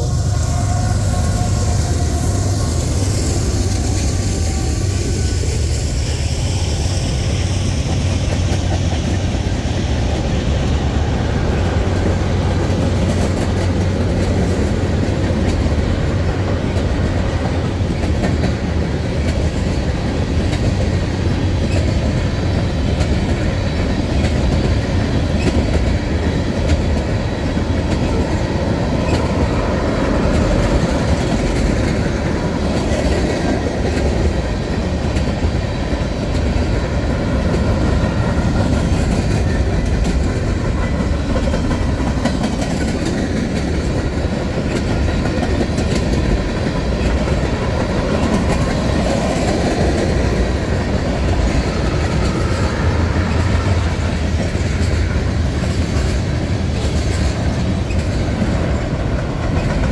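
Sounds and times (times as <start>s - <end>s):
train wheels rumbling on rails: 0.0s - 59.9s
clicking at rail joints: 7.3s - 59.9s.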